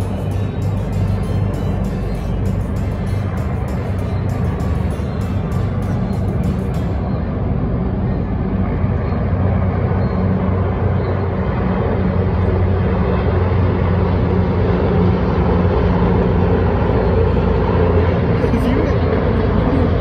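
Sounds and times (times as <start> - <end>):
helicopters droning overhead: 0.0 - 20.0.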